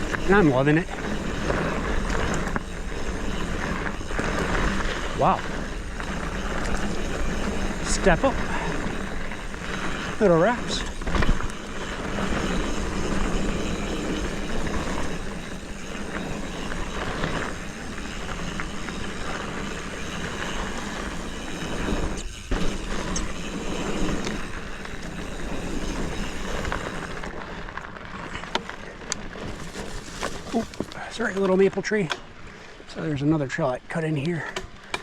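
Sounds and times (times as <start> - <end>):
bike rattles and knocks: 0.0 - 32.5, 33.2 - 35.0
bike tyre and riding noise: 0.0 - 35.0.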